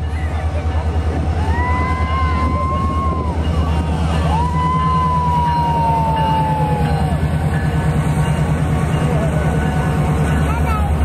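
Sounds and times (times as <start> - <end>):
train rumbling past: 0.0 - 11.0
wheels clattering on rails: 0.0 - 11.0.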